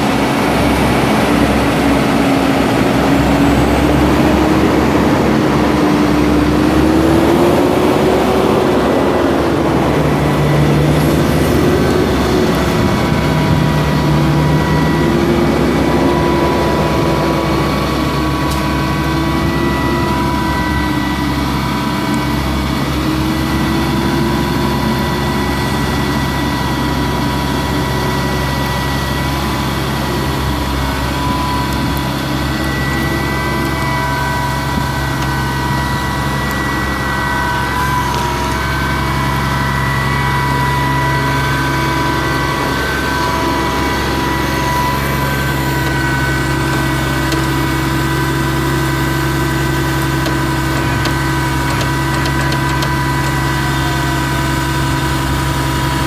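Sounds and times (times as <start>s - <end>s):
diesel truck engine running: 0.0s - 56.0s
steady whine: 0.0s - 56.0s.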